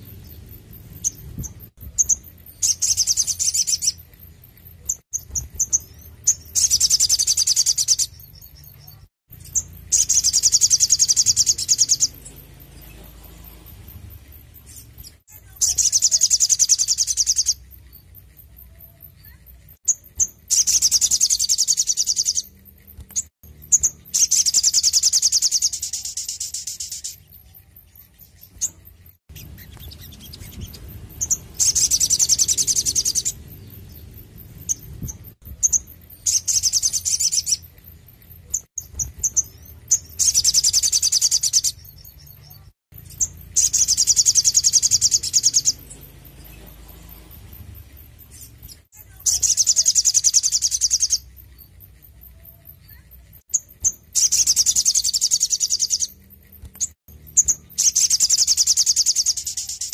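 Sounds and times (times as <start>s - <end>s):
bird high-pitched trills: 0.0s - 59.9s.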